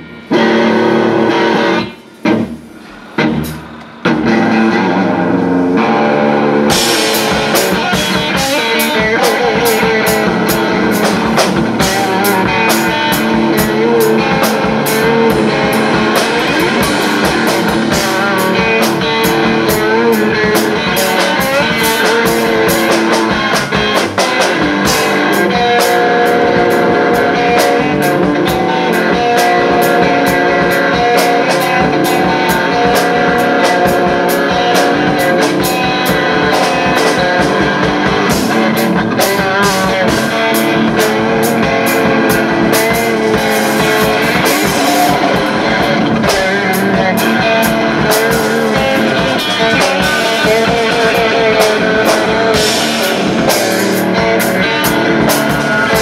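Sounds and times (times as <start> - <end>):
drum kit with cymbals: 0.0 - 56.0
electric guitar: 0.0 - 56.0.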